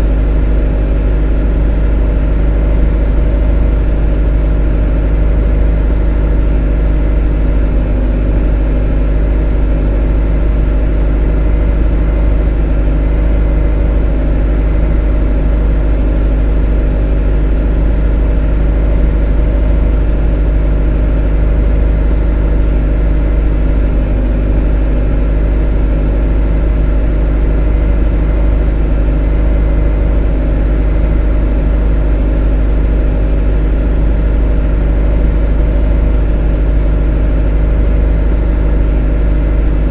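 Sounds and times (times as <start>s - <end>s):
motor droning: 0.0s - 39.9s.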